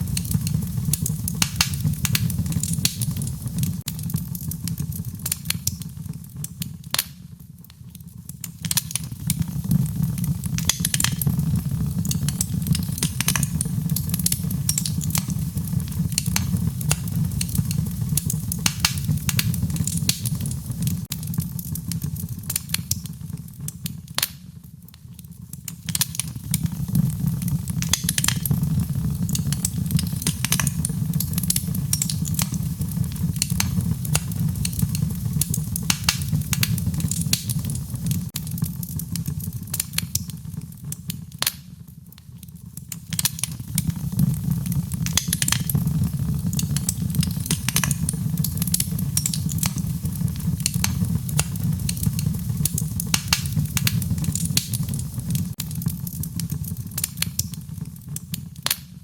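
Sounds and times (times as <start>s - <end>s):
low steady fire rumble: 0.0s - 59.0s
wood fire crackling and popping: 0.0s - 59.0s.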